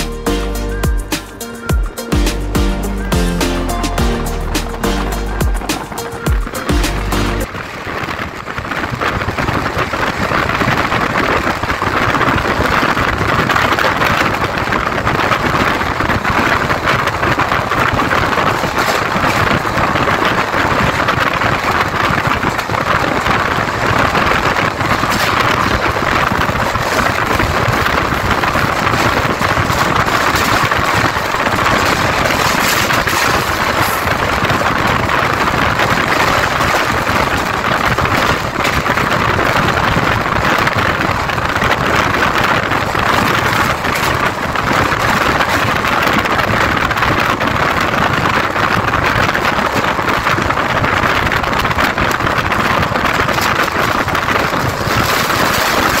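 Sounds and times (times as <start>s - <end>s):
train wheels rolling on rails: 4.4s - 56.0s.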